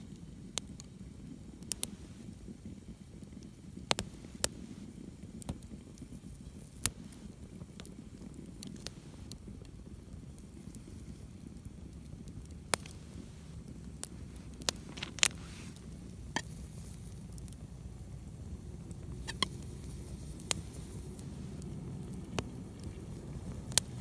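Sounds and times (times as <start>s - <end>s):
campfire crackling and popping: 0.0s - 24.0s
low steady rumble: 0.0s - 24.0s.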